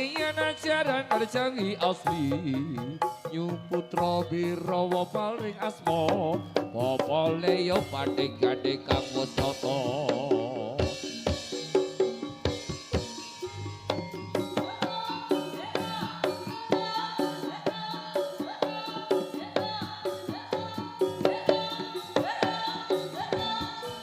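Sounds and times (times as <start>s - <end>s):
hand-drum strokes: 0.0s - 24.0s.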